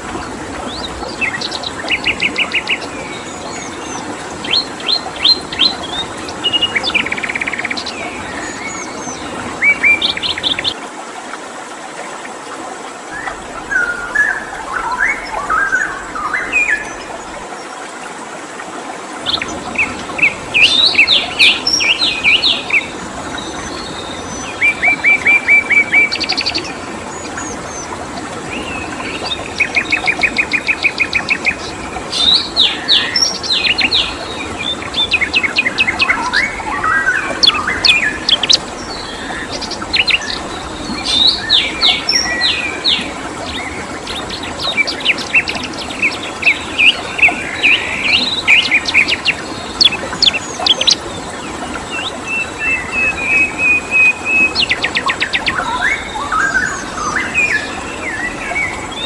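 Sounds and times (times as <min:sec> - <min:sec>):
songbirds chirping and trilling: 0:00.7 - 0:09.3, 0:13.1 - 0:17.8, 0:19.3 - 0:59.0.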